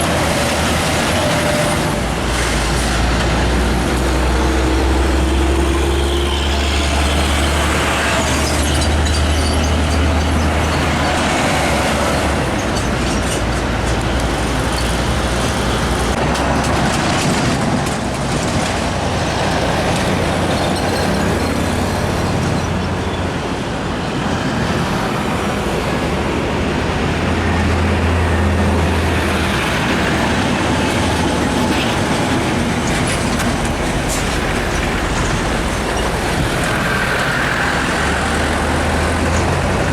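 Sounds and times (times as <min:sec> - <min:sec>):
heavy road traffic: 0:00.0 - 0:39.9
trucks driving past: 0:00.0 - 0:39.9.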